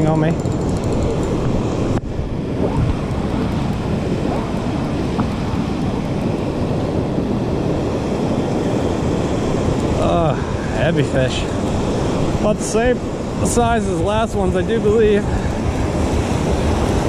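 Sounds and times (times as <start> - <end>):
ocean surf breaking: 0.0 - 17.0
wind rumbling on microphone: 0.0 - 17.0.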